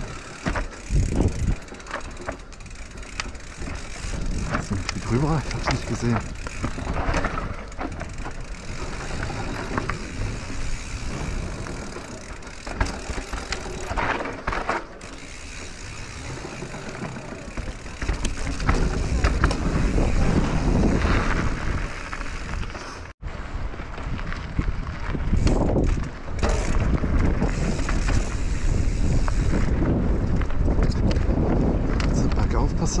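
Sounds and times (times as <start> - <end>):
bike parts clicking and rattling: 0.0 - 23.2, 24.2 - 33.0
bike tyres rolling over dirt: 0.0 - 33.0.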